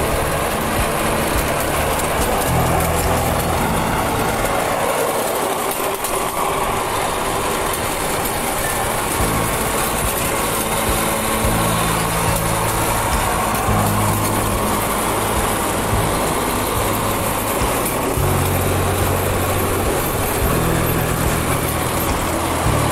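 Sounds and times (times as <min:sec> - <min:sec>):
road and wind noise: 0:00.0 - 0:22.9
vehicle engine running: 0:00.0 - 0:22.9.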